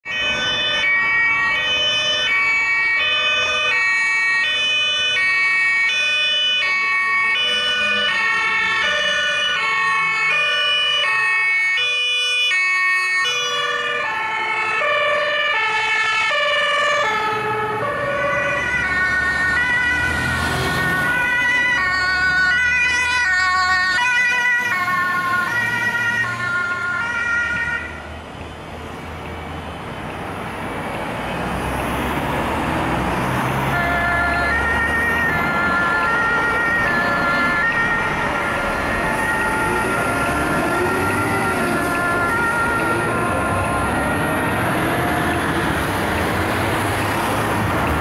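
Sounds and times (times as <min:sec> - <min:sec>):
sirens at other pitches: 0:00.0 - 0:28.1, 0:32.2 - 0:48.0
two-tone fire engine siren: 0:00.0 - 0:28.3, 0:29.4 - 0:48.0
fire truck engine rumble: 0:00.0 - 0:48.0.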